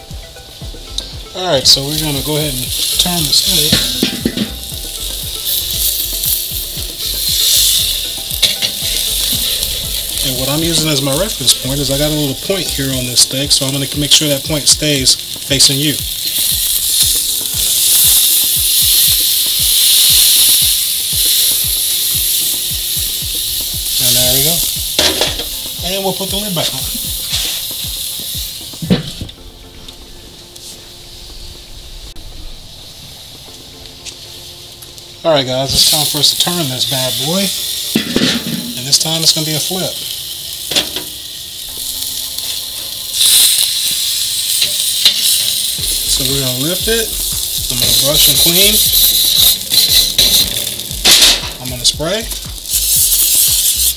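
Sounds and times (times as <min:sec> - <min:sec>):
background music with bass beat: 0:00.0 - 0:53.9
steak sizzling on grill: 0:00.0 - 0:53.9.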